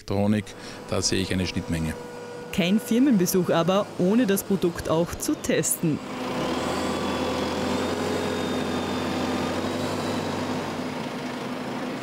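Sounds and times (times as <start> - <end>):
tractor diesel engine running: 0.3 - 12.0.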